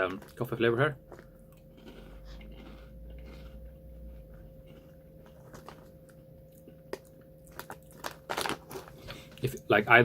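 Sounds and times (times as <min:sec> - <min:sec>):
chewing crunchy food: 0:00.0 - 0:09.6.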